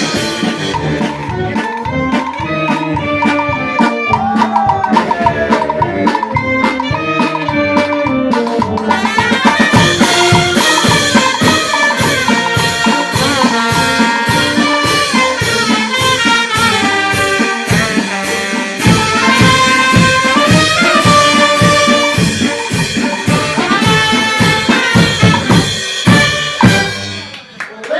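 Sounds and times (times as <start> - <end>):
steady drum beat: 0.0 - 27.3
brass band playing: 0.0 - 27.5.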